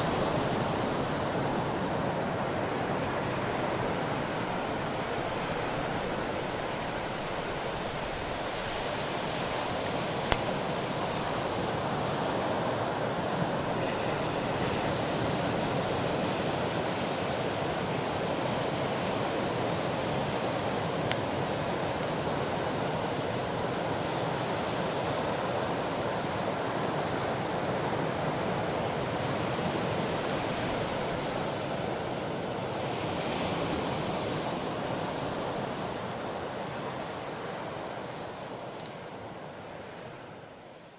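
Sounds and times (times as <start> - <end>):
sea waves breaking on beach: 0.0 - 40.4.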